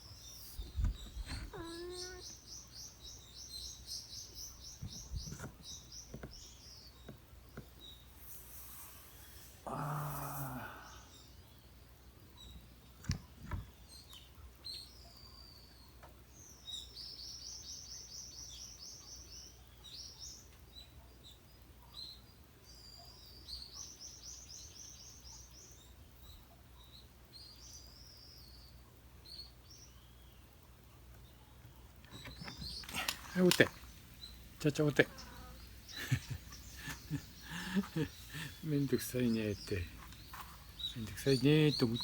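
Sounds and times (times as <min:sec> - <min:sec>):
songbird singing: 0:00.0 - 0:42.0.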